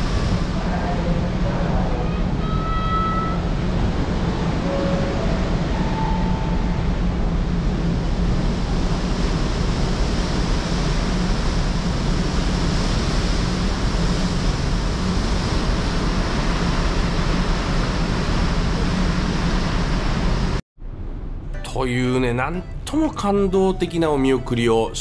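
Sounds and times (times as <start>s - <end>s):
churning wake water: 0.0s - 20.6s
low ship hum: 0.0s - 25.0s.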